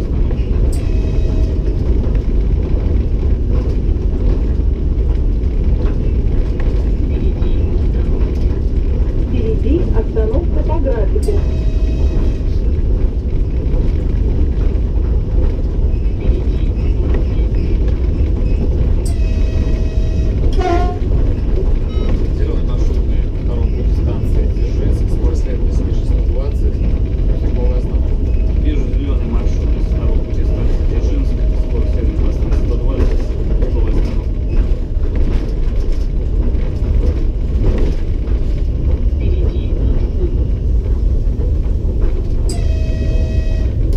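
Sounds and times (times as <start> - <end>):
locomotive cab rumble: 0.0 - 43.9.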